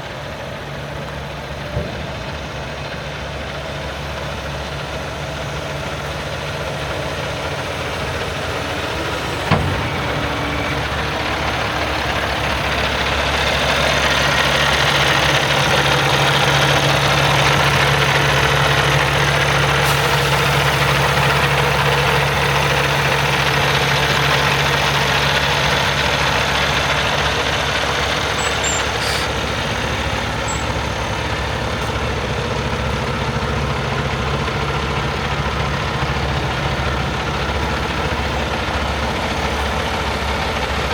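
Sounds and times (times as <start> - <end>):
diesel truck idling: 0.0 - 40.9.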